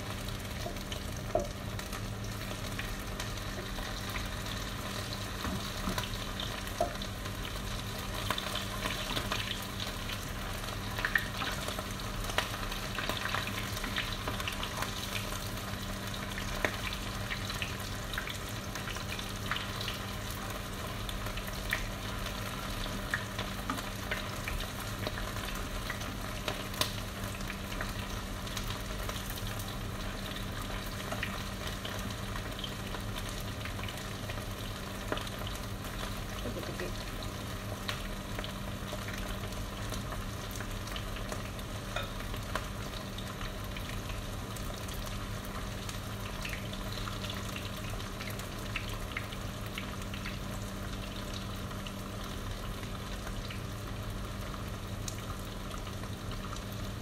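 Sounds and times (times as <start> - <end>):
meat sizzling in oil: 0.0 - 57.0.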